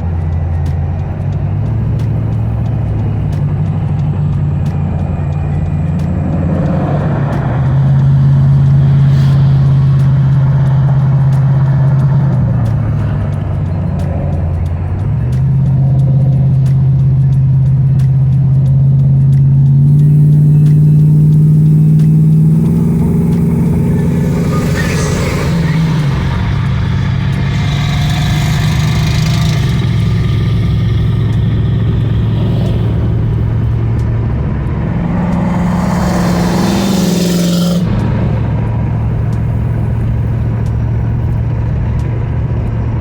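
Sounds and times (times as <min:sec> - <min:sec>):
car engine running: 0:00.0 - 0:43.0.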